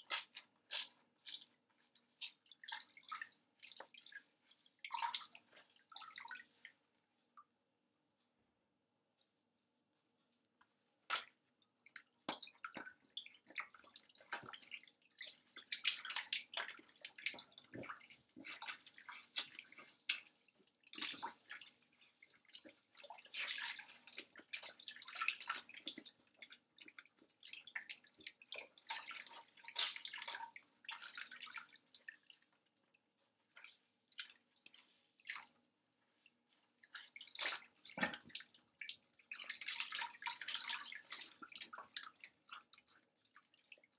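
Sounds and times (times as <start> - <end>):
water dripping: 0.0 - 7.6, 10.5 - 43.9
water splashing in a sink: 0.0 - 7.7, 10.0 - 43.9.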